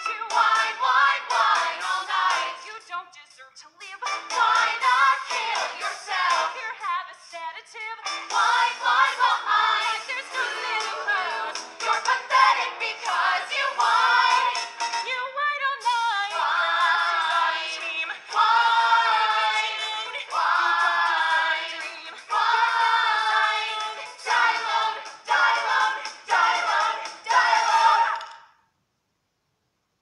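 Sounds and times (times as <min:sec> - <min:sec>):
cast singing held phrases: 0:00.0 - 0:28.4.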